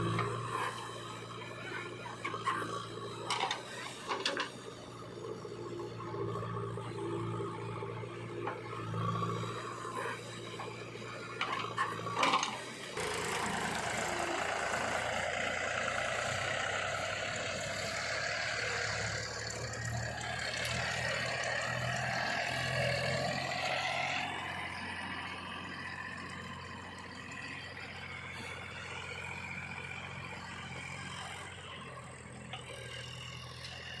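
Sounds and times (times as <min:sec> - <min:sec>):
diesel machinery running: 0:00.0 - 0:34.0.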